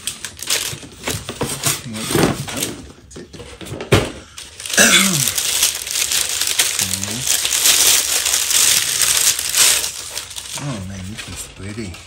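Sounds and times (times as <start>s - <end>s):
plastic bag crinkling: 0.0s - 2.8s, 4.3s - 12.0s.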